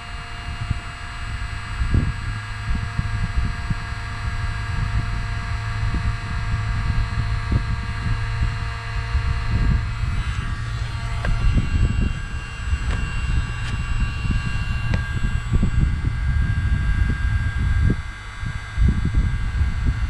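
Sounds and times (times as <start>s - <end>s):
heat gun fan humming: 0.0s - 20.0s
wind buffeting microphone: 0.0s - 20.0s.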